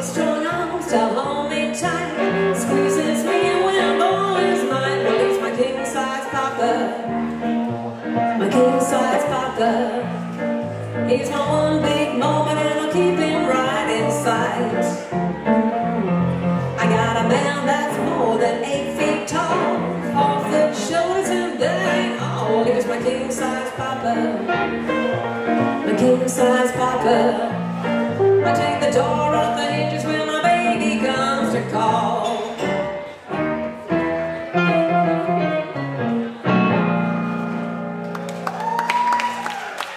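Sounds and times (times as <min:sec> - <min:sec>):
bass line: 0:00.0 - 0:32.1
electric guitar playing blues: 0:00.0 - 0:38.3
keyboard playing: 0:00.0 - 0:38.4.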